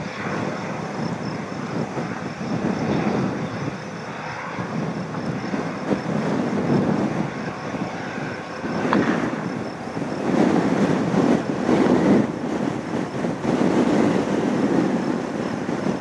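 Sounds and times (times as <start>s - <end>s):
faint high whine: 0.0s - 16.0s
jet engines taxiing: 0.0s - 16.0s.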